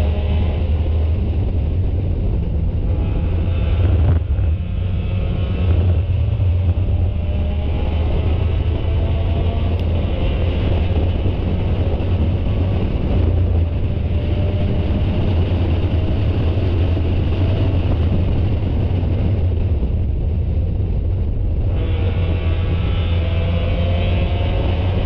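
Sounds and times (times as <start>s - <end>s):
race car engine running hard: 0.0s - 25.0s
wind noise: 0.0s - 25.0s.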